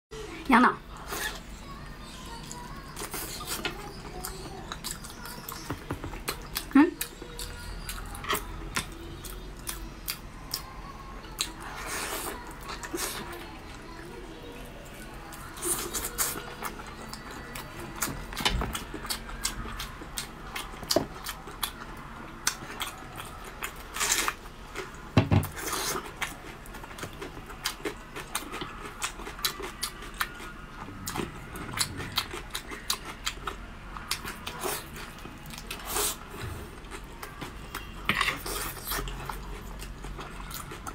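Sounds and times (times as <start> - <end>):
chewing and lip-smacking: 2.2 - 13.9, 14.6 - 40.9.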